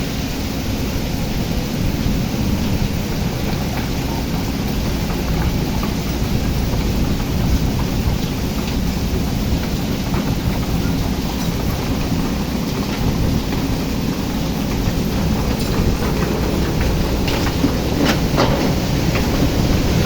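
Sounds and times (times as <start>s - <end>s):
excavator diesel engine running: 0.0s - 20.0s
heavy rain falling: 0.0s - 20.0s.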